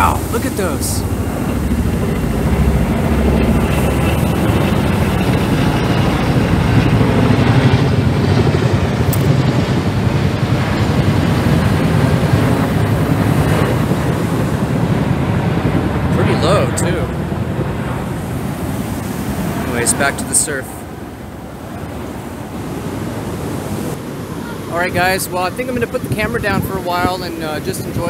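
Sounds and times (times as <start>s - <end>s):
helicopter rotor beat: 0.0s - 28.0s.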